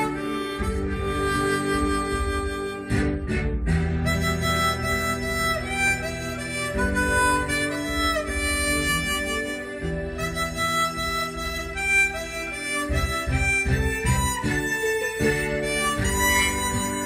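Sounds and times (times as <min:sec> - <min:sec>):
pulsing bass: 0:00.0 - 0:17.0
slow melody of held notes: 0:00.0 - 0:17.0.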